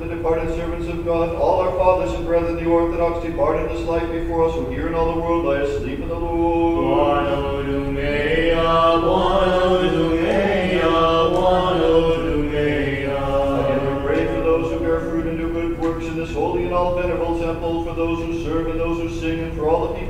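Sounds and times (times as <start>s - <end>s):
liturgical chant: 0.0s - 20.0s.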